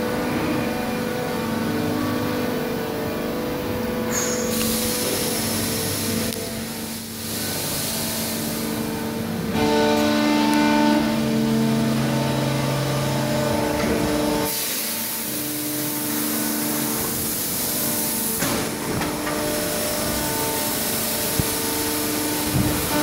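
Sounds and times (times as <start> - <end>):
hiss of running machinery: 0.2 - 23.0.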